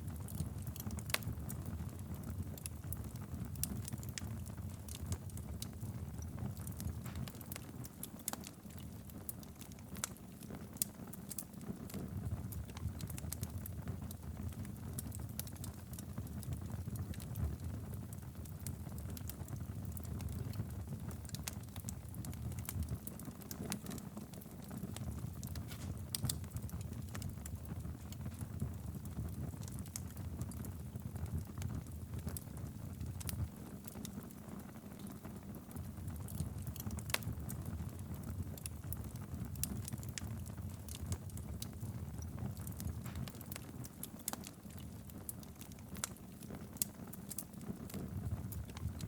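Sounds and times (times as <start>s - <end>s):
wood fire crackling and popping: 0.0s - 49.0s.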